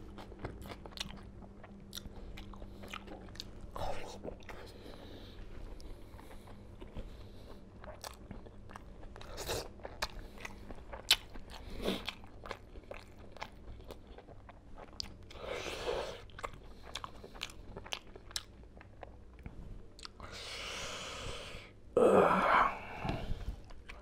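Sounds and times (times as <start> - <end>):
man chewing food: 0.0 - 21.7, 22.8 - 24.0.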